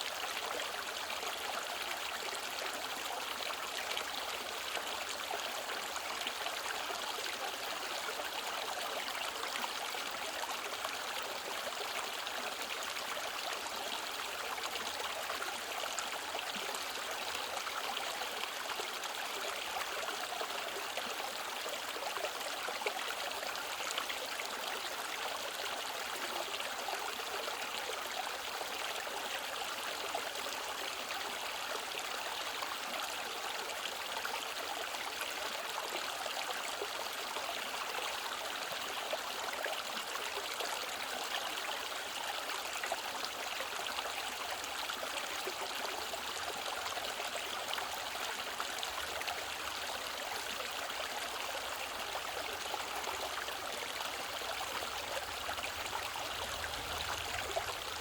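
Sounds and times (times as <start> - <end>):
stream rushing and babbling: 0.0 - 58.0.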